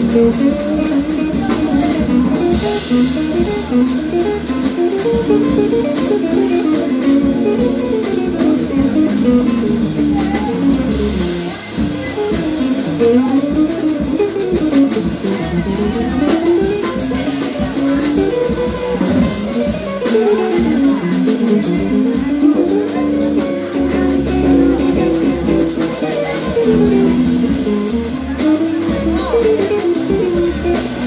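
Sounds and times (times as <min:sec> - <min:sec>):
drums and cymbals: 0:00.0 - 0:31.0
electric bass: 0:00.0 - 0:31.0
electric guitar melody: 0:00.0 - 0:31.0.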